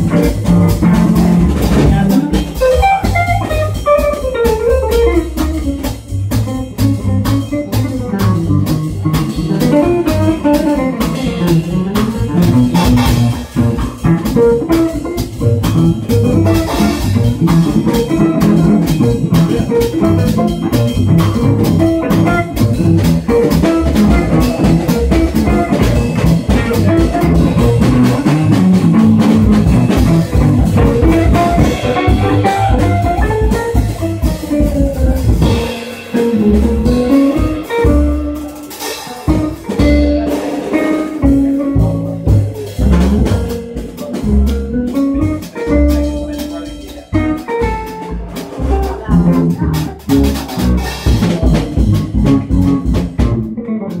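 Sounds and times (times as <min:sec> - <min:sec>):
drum kit: 0:00.0 - 0:54.0
plucked double bass: 0:00.0 - 0:54.0.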